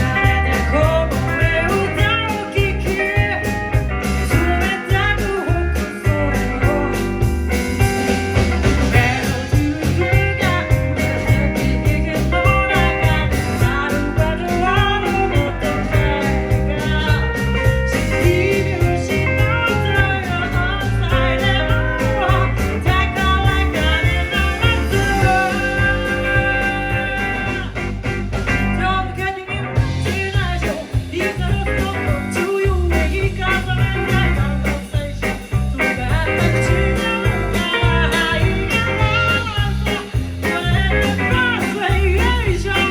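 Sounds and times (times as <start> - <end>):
guitar: 0.0 - 42.9
live blues-rock band: 0.0 - 42.9.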